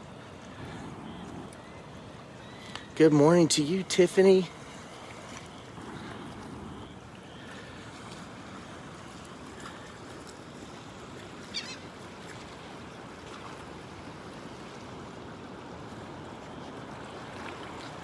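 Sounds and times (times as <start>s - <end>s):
surf washing on beach: 0.0s - 18.0s.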